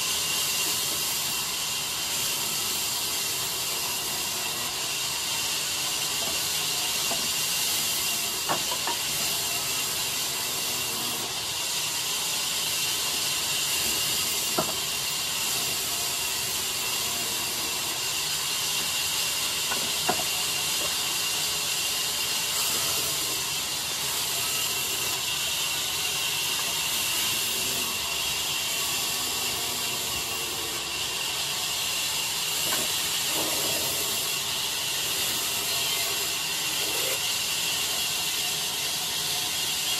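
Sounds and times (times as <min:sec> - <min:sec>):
band saw blade hissing: 0:00.0 - 0:39.9.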